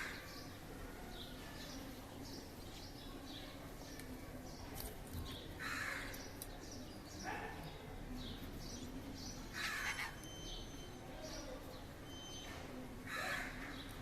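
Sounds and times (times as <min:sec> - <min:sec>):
harsh bird calls: 0:00.0 - 0:03.9, 0:04.5 - 0:14.0.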